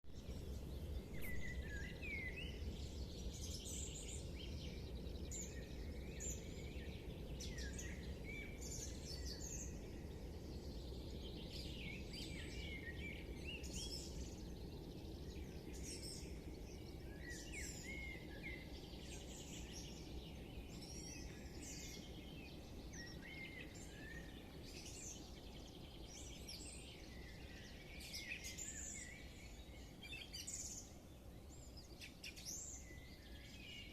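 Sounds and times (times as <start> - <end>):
birds chirping and trilling: 0.1 - 33.9
low background rumble: 0.2 - 28.0.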